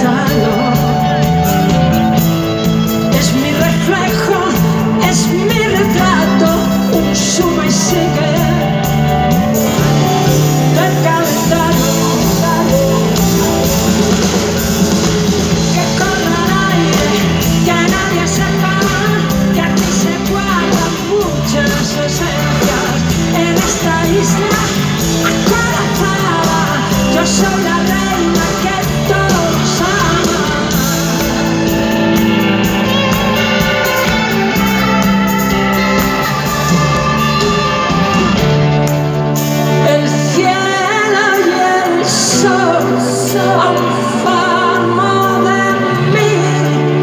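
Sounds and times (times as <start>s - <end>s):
live pop-rock band with singing: 0.0s - 47.0s.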